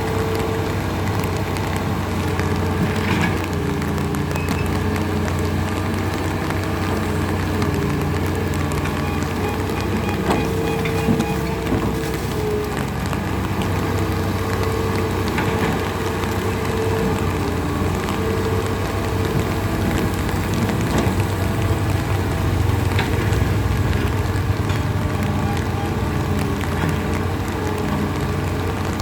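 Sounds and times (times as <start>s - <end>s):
steady rain: 0.0s - 29.0s
vehicle engine humming: 0.0s - 29.0s.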